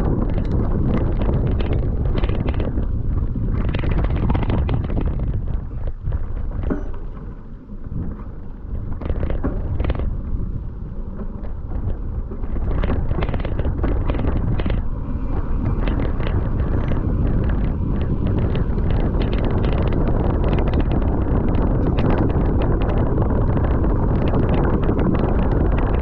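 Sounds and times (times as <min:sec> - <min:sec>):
wind buffeting microphone: 0:00.0 - 0:26.0
quick rattles and knocks: 0:00.1 - 0:10.2, 0:11.2 - 0:26.0.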